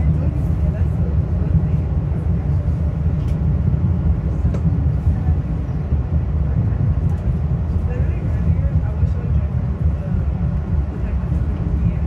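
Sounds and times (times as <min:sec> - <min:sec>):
commuter train rumbling: 0:00.0 - 0:12.0.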